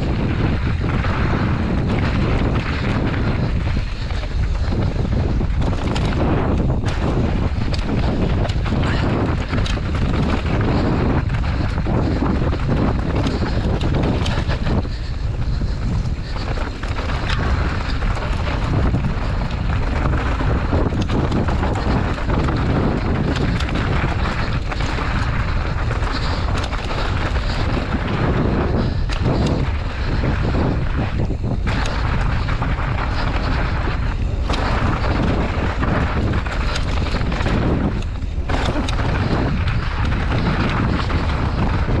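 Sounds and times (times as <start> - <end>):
bike knocking and rattling: 0.0 - 42.0
tyres crunching over dirt: 0.0 - 42.0
wind buffeting microphone: 0.0 - 42.0.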